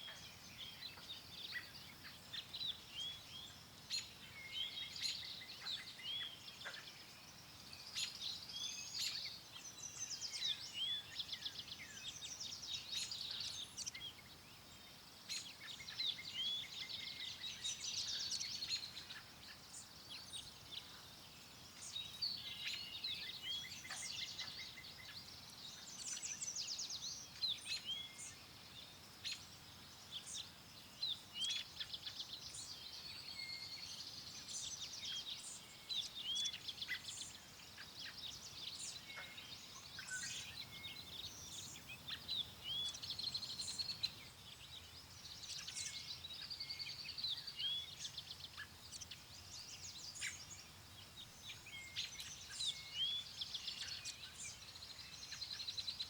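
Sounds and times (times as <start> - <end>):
faint steady hiss: 0.0 - 56.0
songbirds singing and calling: 0.0 - 56.0.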